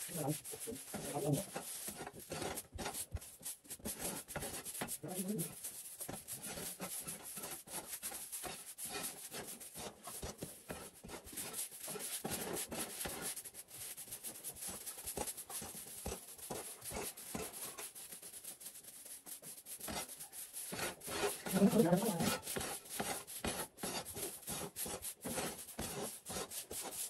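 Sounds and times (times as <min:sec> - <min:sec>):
scraping and rubbing strokes: 0:00.0 - 0:27.0.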